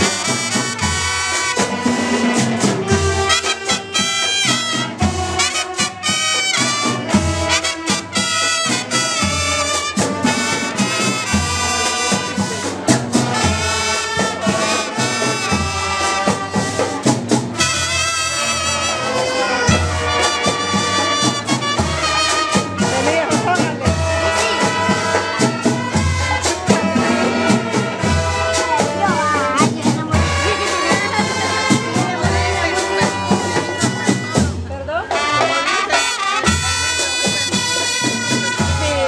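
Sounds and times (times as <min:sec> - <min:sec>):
marching band brass melody: 0:00.0 - 0:39.0
steady low drum beat: 0:00.0 - 0:39.0.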